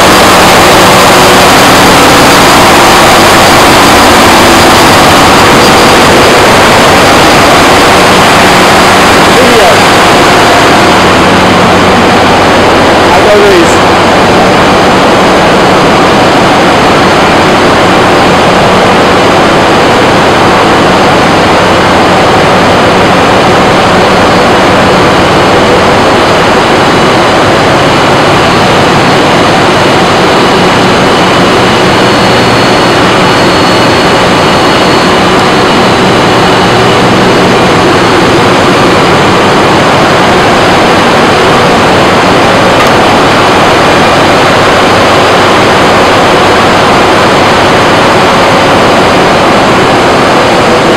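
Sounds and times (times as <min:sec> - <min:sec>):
engine room machinery running: 0:00.0 - 0:50.9.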